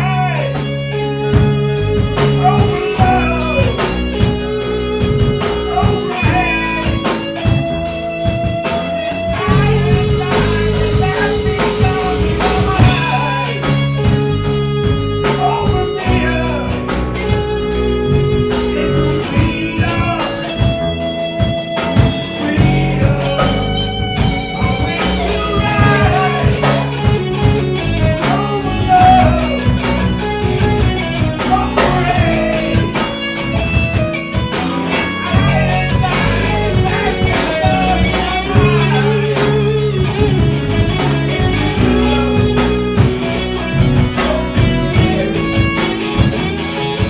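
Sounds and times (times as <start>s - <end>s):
lead electric guitar bending notes: 0.0s - 47.0s
rock band playing: 0.0s - 47.0s.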